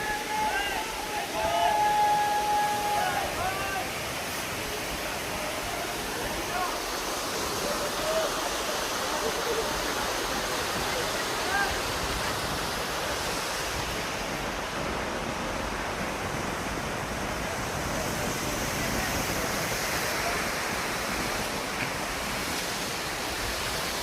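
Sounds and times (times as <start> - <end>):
fast-flowing river water: 0.0 - 24.0.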